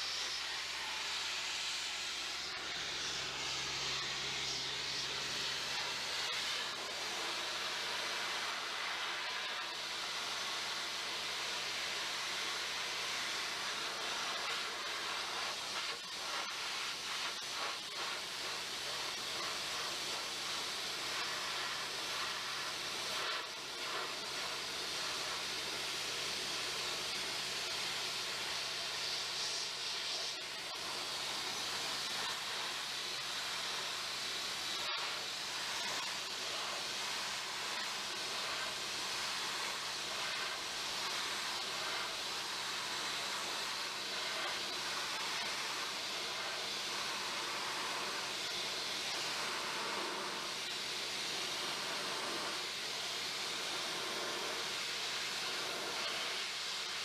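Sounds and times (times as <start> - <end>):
sandblasting hiss: 0.0 - 57.0.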